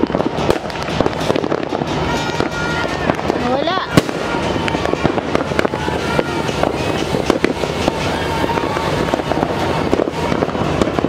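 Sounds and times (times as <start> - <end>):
fireworks bangs and pops: 0.0 - 11.0
fireworks crackling hiss: 0.0 - 11.0.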